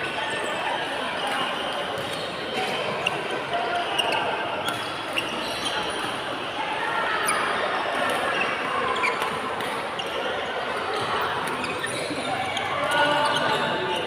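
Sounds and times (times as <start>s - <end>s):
sports hall noise: 0.0s - 14.0s.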